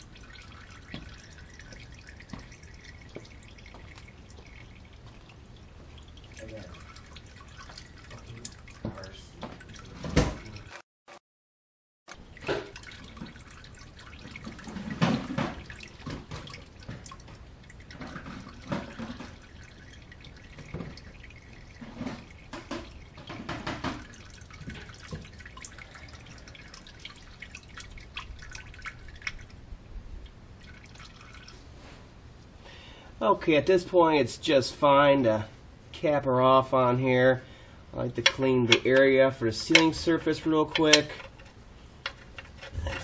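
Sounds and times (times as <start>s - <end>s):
oil dripping into drain pan: 0.0s - 10.7s, 12.1s - 29.6s, 30.2s - 31.6s, 37.5s - 43.0s.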